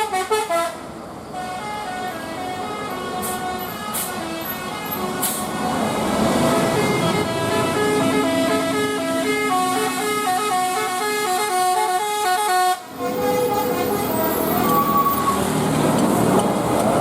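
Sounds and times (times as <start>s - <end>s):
bus musical horn playing a tune: 0.0s - 15.5s
traffic noise: 0.0s - 17.0s.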